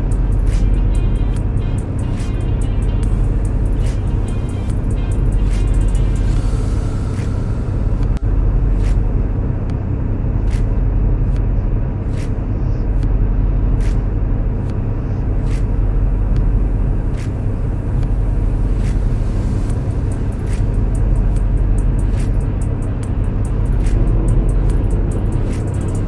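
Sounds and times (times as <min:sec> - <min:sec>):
truck rumbling on road: 0:00.0 - 0:26.0.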